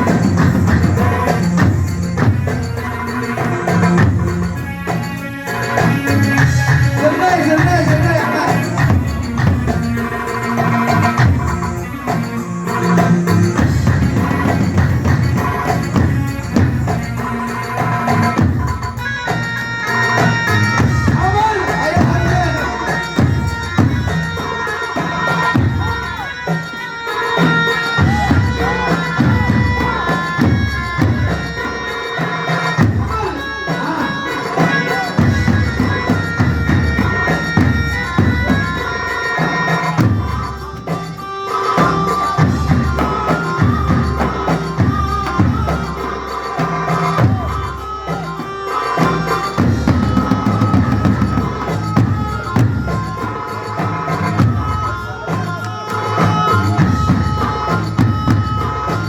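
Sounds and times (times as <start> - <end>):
reedy wind instrument melody: 0.0 - 59.0
steady drum beats: 0.0 - 59.0.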